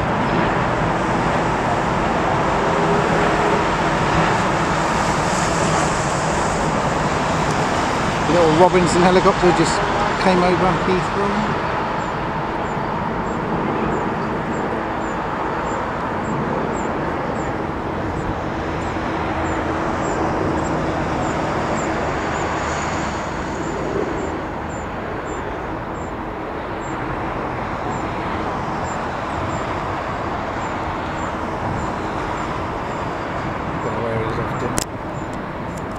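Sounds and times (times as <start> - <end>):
helicopter rotor and engine drone: 0.0 - 35.9.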